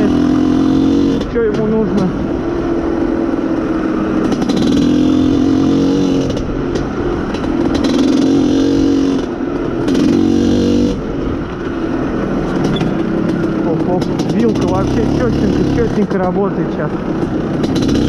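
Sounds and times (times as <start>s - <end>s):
two-stroke motorcycle engine revving: 0.0s - 18.0s.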